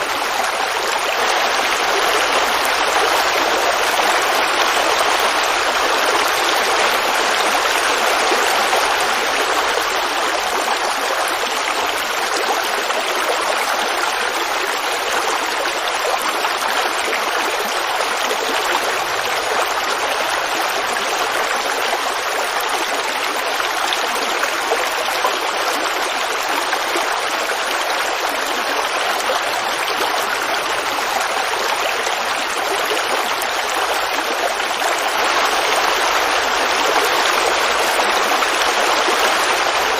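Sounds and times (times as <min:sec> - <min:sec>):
creek babbling over rocks: 0:00.0 - 0:39.9.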